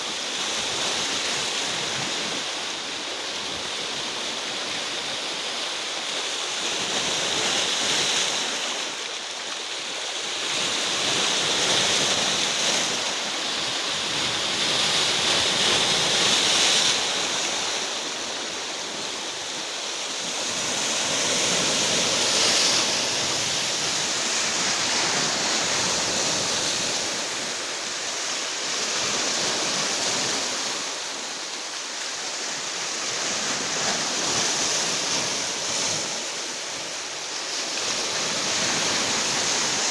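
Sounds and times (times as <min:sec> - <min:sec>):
surf breaking on shore: 0:00.0 - 0:39.9.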